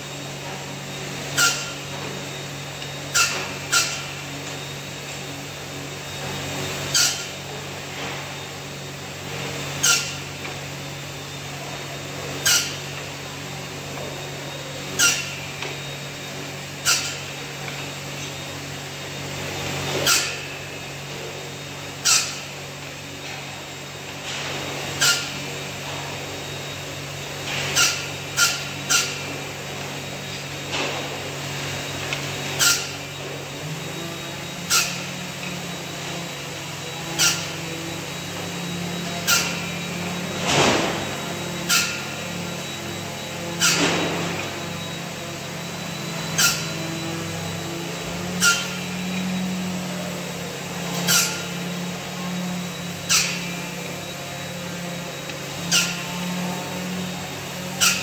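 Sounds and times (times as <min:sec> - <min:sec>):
saw machine hum: 0:00.0 - 0:58.0.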